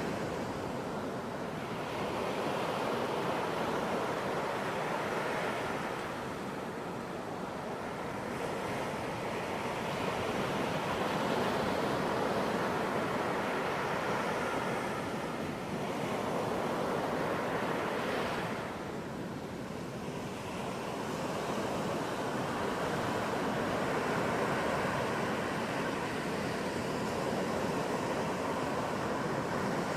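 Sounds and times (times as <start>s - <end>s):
ocean waves washing onto beach: 0.0s - 29.9s.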